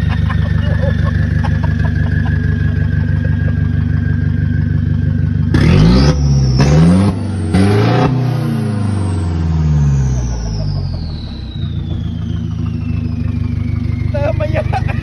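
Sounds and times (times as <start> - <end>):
diesel engine idling and revving: 0.0 - 15.0
high turbo whine: 0.0 - 15.0.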